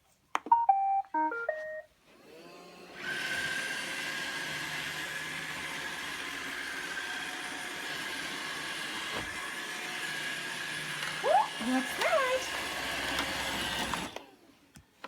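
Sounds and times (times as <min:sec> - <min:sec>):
robot vacuum whirring: 0:02.1 - 0:14.4.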